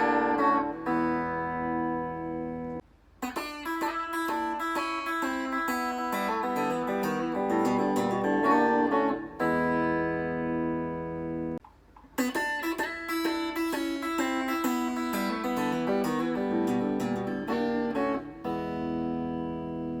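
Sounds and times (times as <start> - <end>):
electric guitar playing: 0.0 - 11.6, 12.2 - 20.0.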